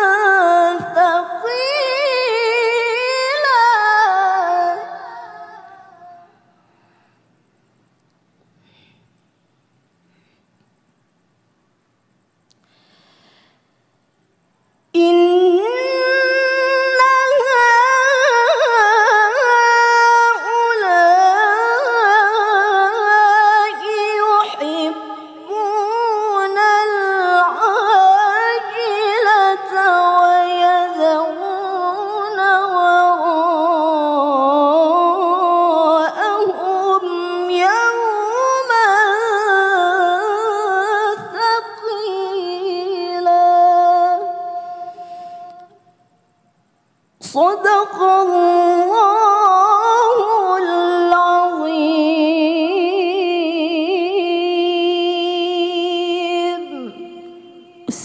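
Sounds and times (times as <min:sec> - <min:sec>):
woman reciting melodically: 0:00.0 - 0:06.6, 0:14.9 - 0:45.9, 0:47.2 - 0:58.0.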